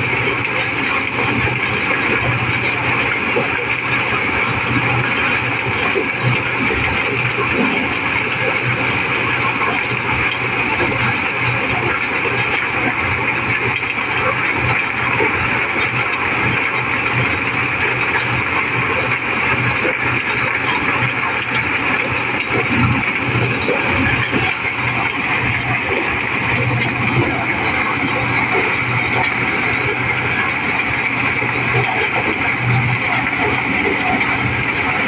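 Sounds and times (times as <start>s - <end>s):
corn sheller machine din: 0.0s - 35.0s.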